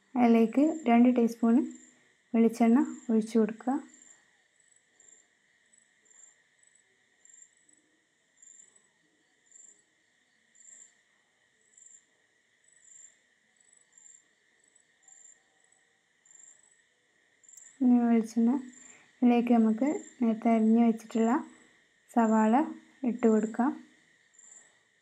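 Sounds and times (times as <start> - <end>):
cricket chirping: 0.0 - 25.0
faint high hum: 0.0 - 25.0.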